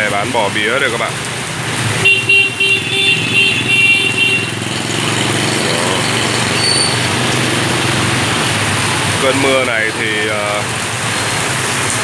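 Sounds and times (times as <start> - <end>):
heavy rain on wet street: 0.0 - 12.0
motorbikes and cars passing: 0.0 - 12.0.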